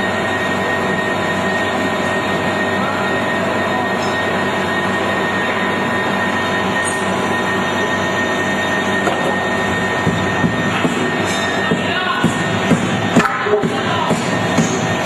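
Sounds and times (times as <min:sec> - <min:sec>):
industrial machinery humming: 0:00.0 - 0:15.0
machinery whining tones: 0:00.0 - 0:15.0.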